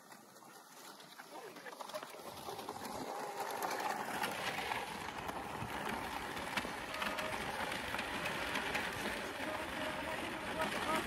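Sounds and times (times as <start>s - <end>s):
skate blades scraping ice: 0.0s - 11.0s.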